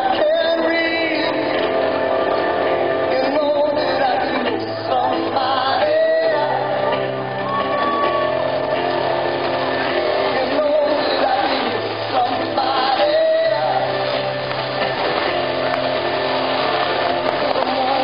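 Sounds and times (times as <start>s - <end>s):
song over loudspeakers: 0.0s - 18.0s.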